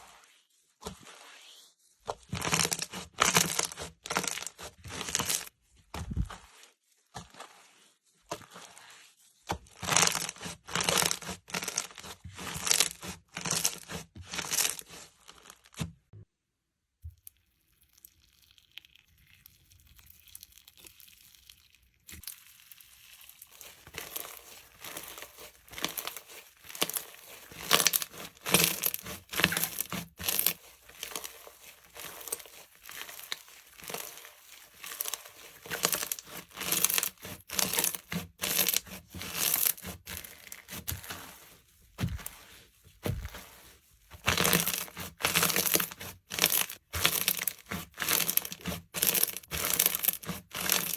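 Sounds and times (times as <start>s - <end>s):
slime squishing by hand: 0.0s - 16.1s, 17.1s - 50.9s.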